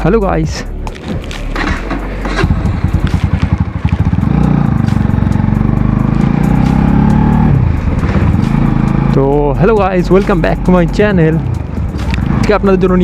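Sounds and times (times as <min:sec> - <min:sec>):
motorcycle engine running: 0:01.2 - 0:13.0.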